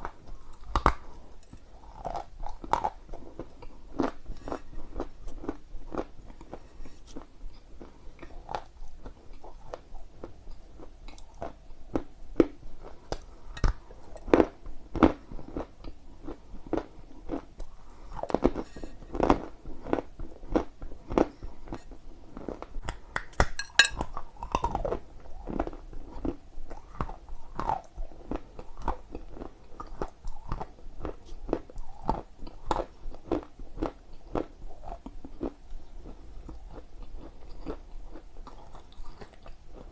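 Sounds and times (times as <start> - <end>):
chewing dry clay crunches: 0.0 - 39.9.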